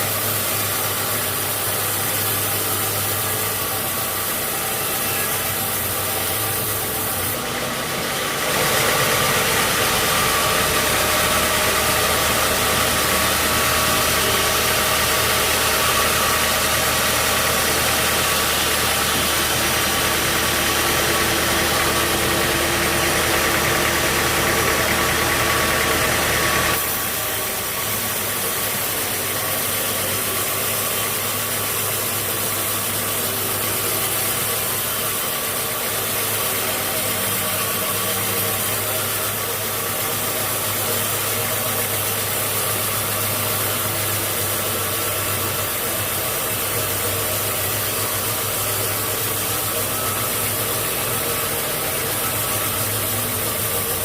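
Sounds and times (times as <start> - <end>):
harsh hiss: 0.0 - 54.0
sawmill machinery running: 0.0 - 54.0.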